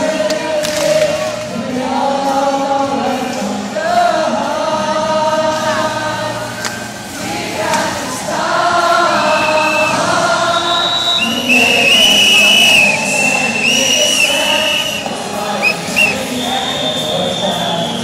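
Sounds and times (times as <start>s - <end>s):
crowd singing: 0.0s - 18.0s
music in an arena: 0.0s - 18.0s.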